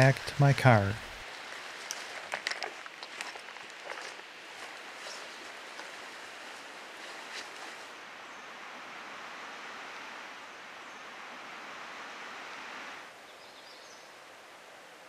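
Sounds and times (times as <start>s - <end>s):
steady forest hiss: 0.0s - 15.0s.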